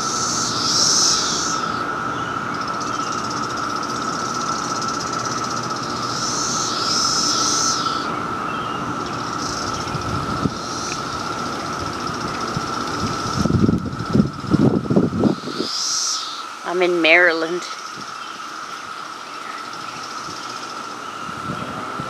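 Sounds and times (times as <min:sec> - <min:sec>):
cicadas droning: 0:00.0 - 0:22.0
higher buzzing cicada call: 0:00.0 - 0:22.0.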